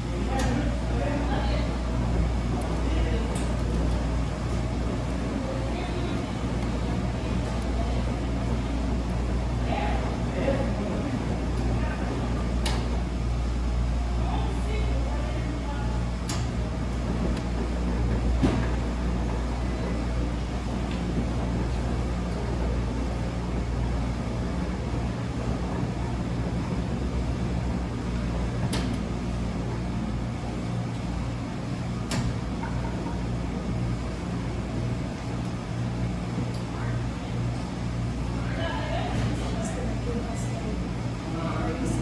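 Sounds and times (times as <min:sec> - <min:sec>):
washing machine motor hum: 0:00.0 - 0:42.0.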